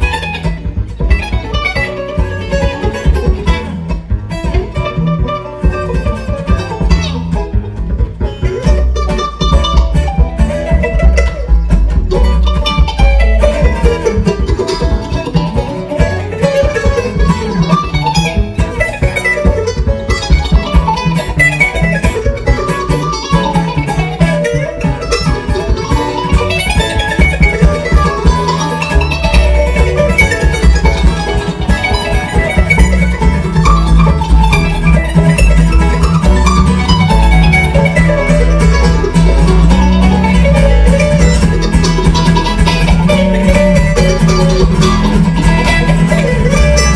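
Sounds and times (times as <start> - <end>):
acoustic guitar: 0.0 - 46.9
banjo picking: 0.0 - 46.9
mandolin: 0.0 - 46.9
upright bass: 0.0 - 46.9.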